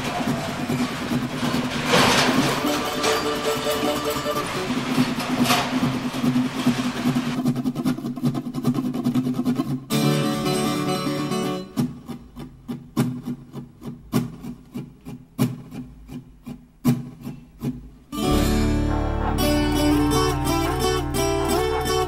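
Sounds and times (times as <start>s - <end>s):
plucked guitar-like music: 2.1s - 22.0s.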